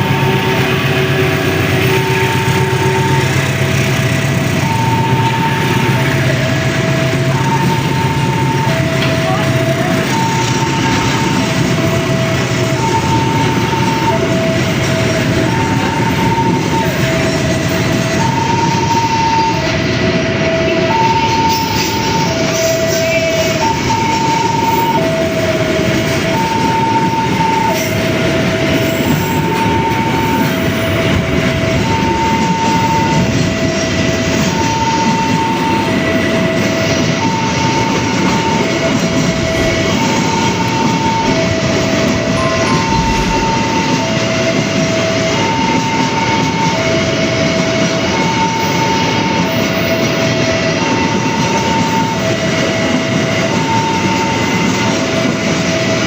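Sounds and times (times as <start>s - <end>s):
level crossing alarm: 0.0s - 56.0s
train rumbling and rattling: 0.0s - 56.0s.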